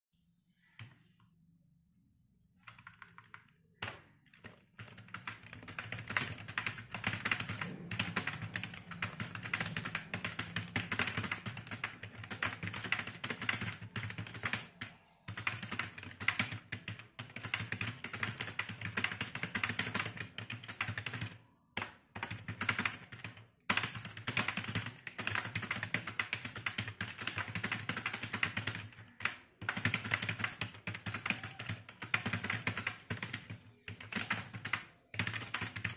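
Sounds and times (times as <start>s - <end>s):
fast typing on a keyboard: 2.6s - 35.9s.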